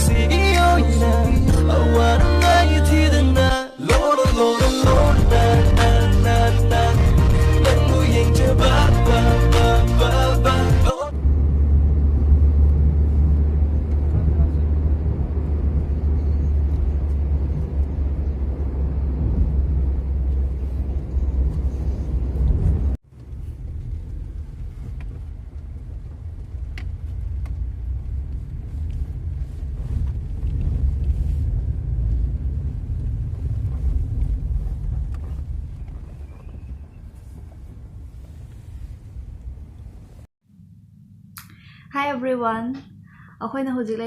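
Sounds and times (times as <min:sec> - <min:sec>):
low vehicle rumble: 0:00.0 - 0:03.6, 0:04.8 - 0:41.8.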